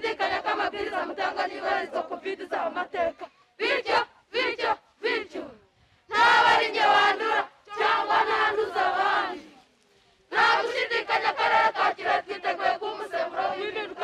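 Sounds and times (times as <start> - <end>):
group chanting and shouting: 0.0 - 14.0.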